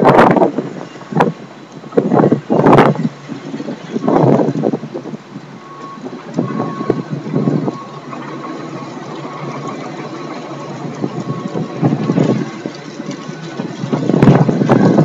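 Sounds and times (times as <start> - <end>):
street traffic noise: 0.0 - 15.0
wind buffeting microphone: 0.0 - 15.0.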